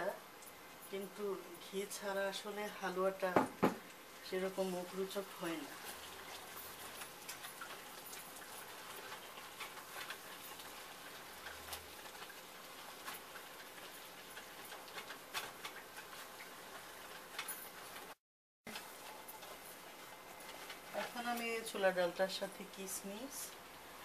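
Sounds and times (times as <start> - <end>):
paste sizzling and crackling in oil: 0.3 - 24.0.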